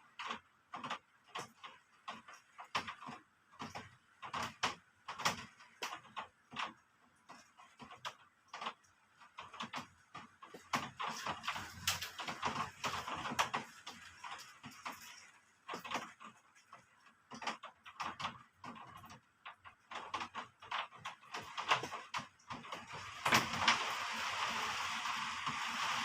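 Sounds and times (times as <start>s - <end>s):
raindrops tapping on hard surface: 0.0s - 26.0s.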